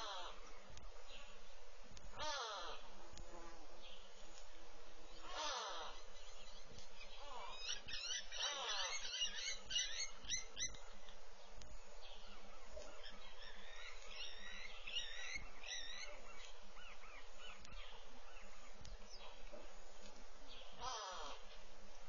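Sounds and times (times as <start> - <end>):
wild birds chirping: 0.0 - 22.0.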